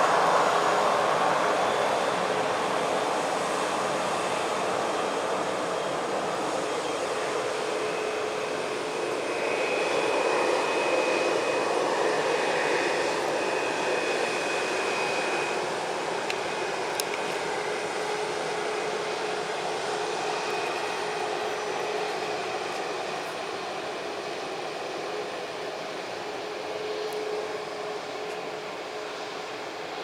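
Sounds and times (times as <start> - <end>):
jet engines rushing: 0.0 - 30.0.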